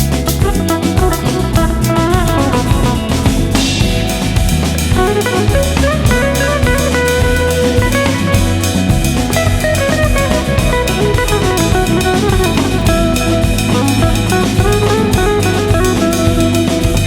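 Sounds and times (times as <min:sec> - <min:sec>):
drum-kit beat: 0:00.0 - 0:17.0
guitar music: 0:00.0 - 0:17.0.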